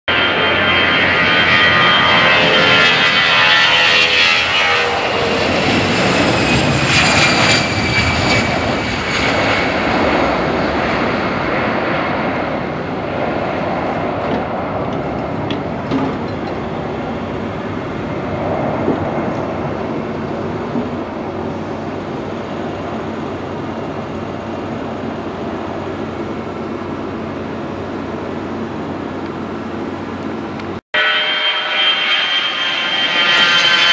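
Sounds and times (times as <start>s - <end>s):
jet airliner engine noise: 0.1s - 33.9s.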